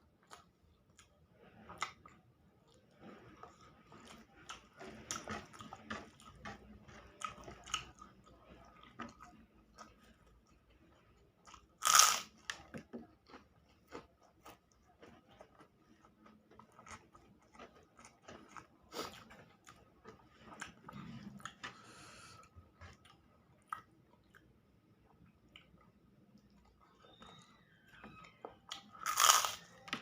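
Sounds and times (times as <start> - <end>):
close chewing with wet smacks: 0.1 - 11.7, 12.4 - 21.8, 22.4 - 27.6.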